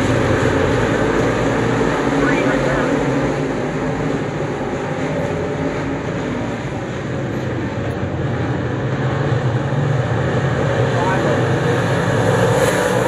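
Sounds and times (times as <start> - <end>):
race car engine at speed: 0.0 - 13.0.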